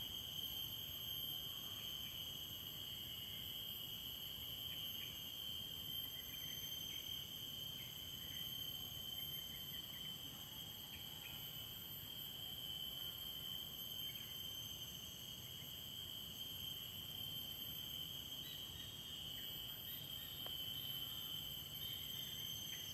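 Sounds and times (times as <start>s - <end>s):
shrill insect chorus: 0.0s - 22.9s.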